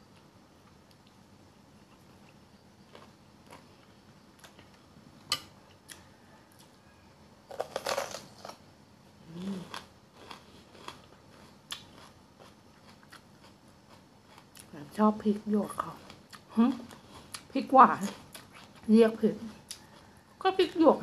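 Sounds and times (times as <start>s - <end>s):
soft chewing: 0.0s - 20.8s.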